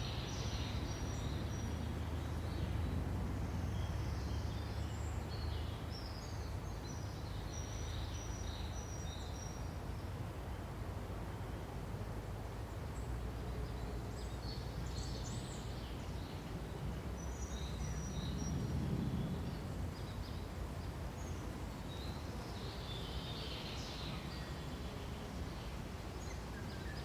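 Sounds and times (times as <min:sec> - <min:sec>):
wind through trees: 0:00.0 - 0:27.0.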